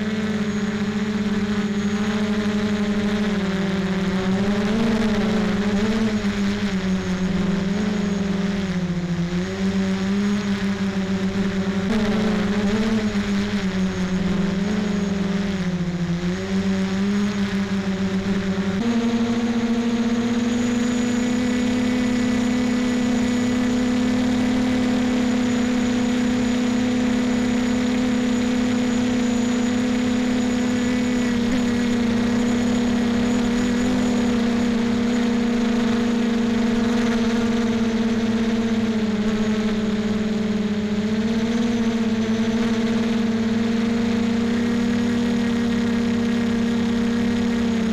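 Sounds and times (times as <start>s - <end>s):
drone motors humming and whining: 0.0s - 47.9s.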